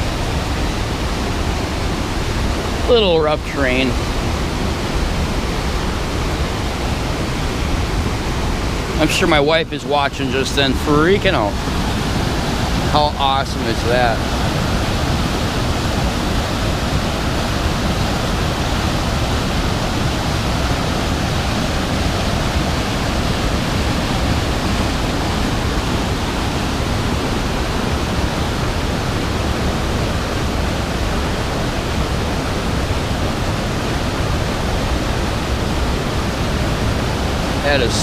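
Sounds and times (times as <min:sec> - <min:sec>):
waterfall roaring: 0:00.0 - 0:38.0.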